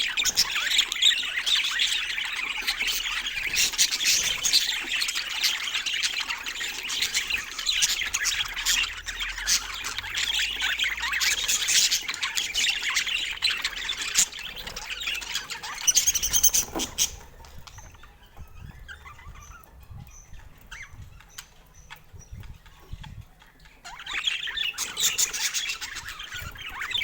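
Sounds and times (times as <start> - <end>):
budgerigars chirping and chattering: 0.0 - 27.0.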